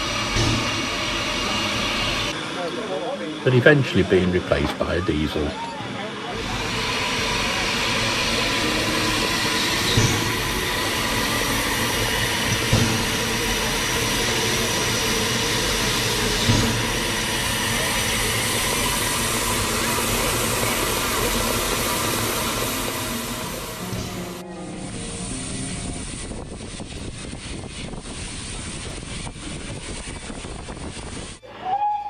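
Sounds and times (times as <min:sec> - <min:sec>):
steam pump hissing: 0:00.0 - 0:05.5, 0:06.3 - 0:31.8.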